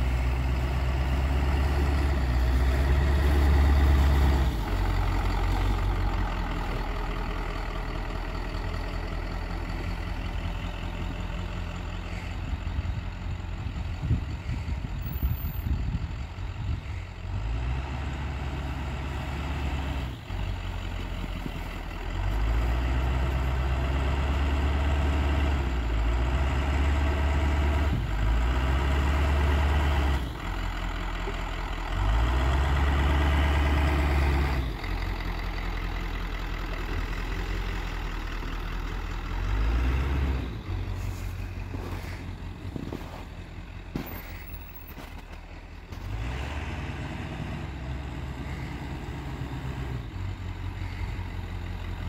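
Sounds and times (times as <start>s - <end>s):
truck engine revving: 0.0s - 11.2s, 17.3s - 52.0s.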